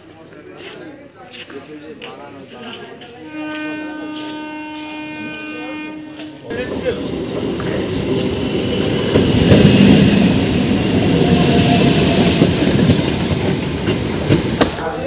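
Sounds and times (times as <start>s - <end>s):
train carriages rumbling and rattling: 2.3s - 15.0s.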